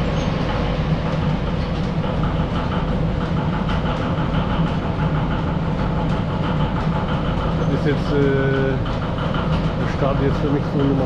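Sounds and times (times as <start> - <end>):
belt-driven machinery humming: 0.0 - 11.0
light repeating clatter: 0.0 - 11.0.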